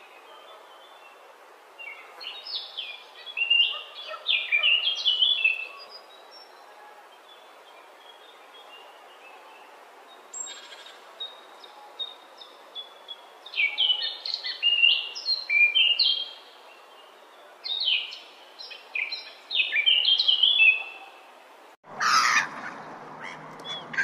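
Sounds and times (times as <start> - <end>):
birds chirping: 0.0 - 24.0
steady background hiss: 0.0 - 24.0.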